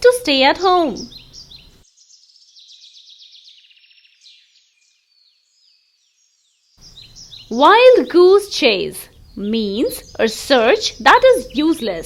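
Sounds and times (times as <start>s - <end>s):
faint songbird chirping: 0.0s - 12.0s.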